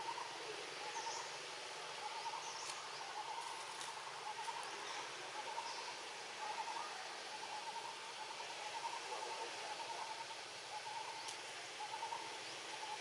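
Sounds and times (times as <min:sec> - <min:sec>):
birds warbling: 0:00.0 - 0:13.0
steady hiss: 0:00.0 - 0:13.0.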